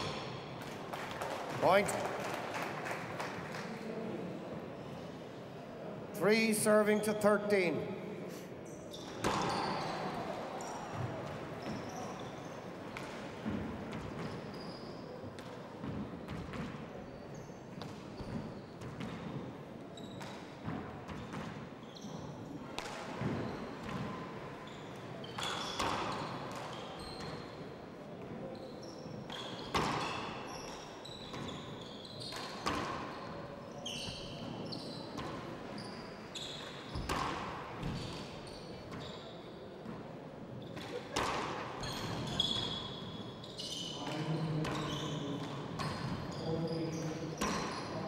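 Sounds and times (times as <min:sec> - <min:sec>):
sneakers squeaking on court: 0:08.6 - 0:48.0.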